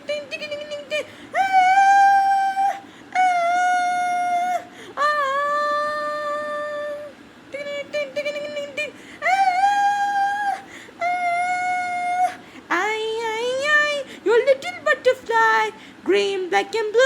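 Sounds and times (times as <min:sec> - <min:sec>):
high voice singing without words: 0:00.0 - 0:17.0.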